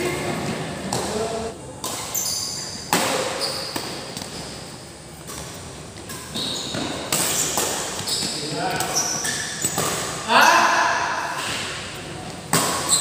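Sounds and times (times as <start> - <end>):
shoes squeaking on court floor: 0.0 - 10.3, 11.4 - 13.0
rackets hitting shuttlecock: 1.8 - 4.6, 5.2 - 13.0.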